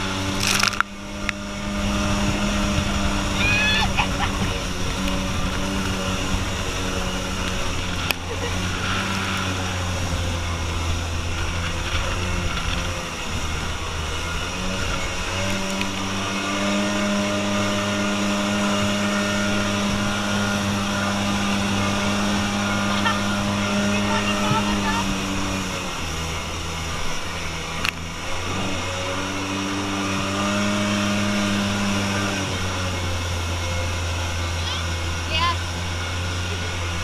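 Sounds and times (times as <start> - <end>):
jet boat engine droning: 0.0 - 37.0
water spray rushing: 0.0 - 37.0.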